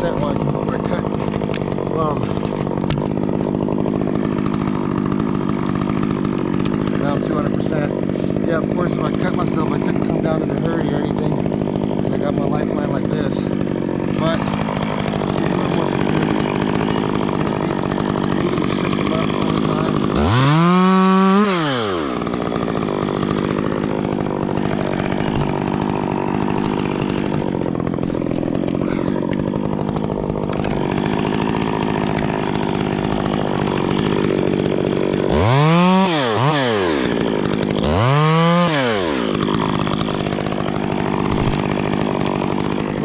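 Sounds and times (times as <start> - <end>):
chainsaw idling and revving: 0.0 - 43.0.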